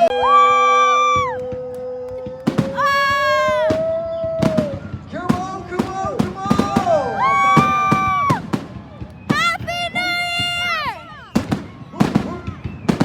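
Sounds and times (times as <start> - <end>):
fireworks whistling: 0.0 - 13.0
fireworks cracking and popping: 1.2 - 13.0.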